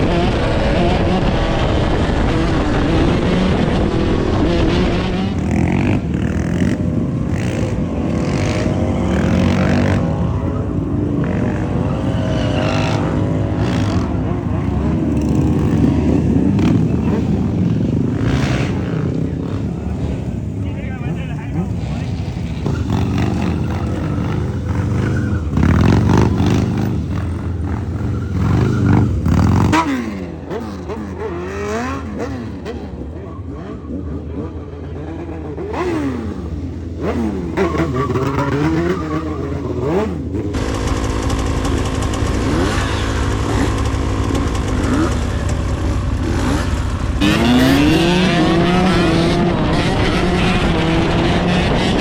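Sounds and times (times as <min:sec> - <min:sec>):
dirt bike engines revving: 0:00.0 - 0:52.0.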